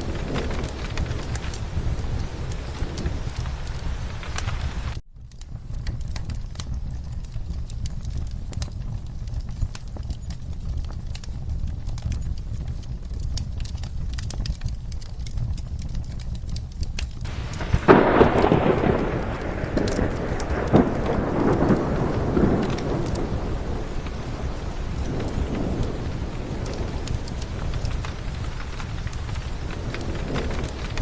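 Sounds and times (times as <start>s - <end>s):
steady rain: 0.0s - 31.0s
thunderclap: 0.0s - 31.0s
wood fire crackling: 0.0s - 31.0s.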